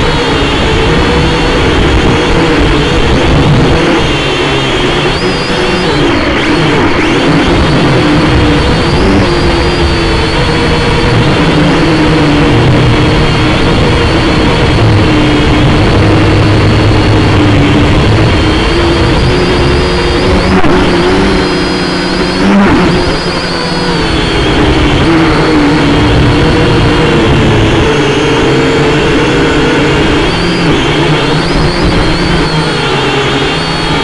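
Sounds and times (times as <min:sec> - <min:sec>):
drone motors whirring: 0:00.0 - 0:34.0.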